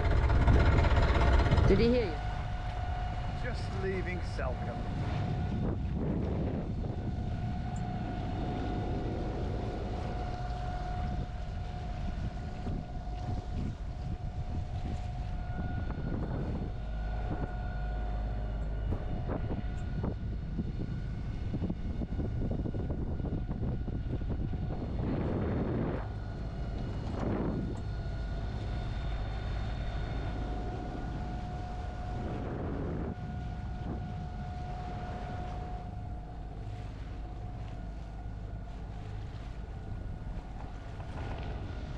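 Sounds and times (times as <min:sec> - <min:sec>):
boat engine droning: 0:00.0 - 0:41.9
wind on microphone: 0:00.0 - 0:41.9.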